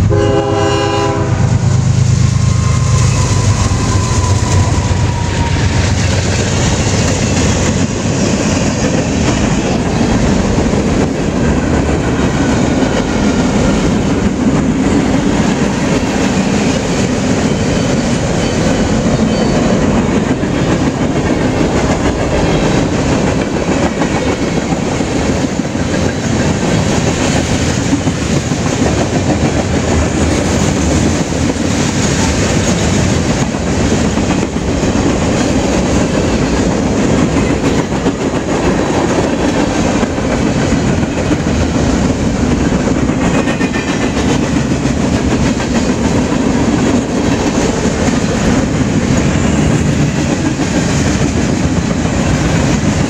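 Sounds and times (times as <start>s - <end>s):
freight train cars rolling on rails: 0.0s - 53.0s.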